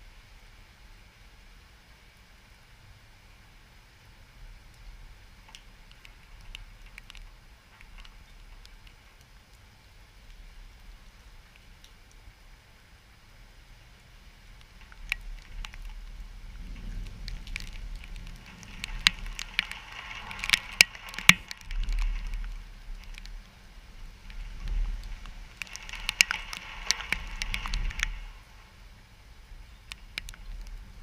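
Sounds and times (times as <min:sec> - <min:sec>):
wind gusts rumbling on microphone: 0:00.0 - 0:31.0
raindrops tapping: 0:04.5 - 0:12.4, 0:13.8 - 0:31.0.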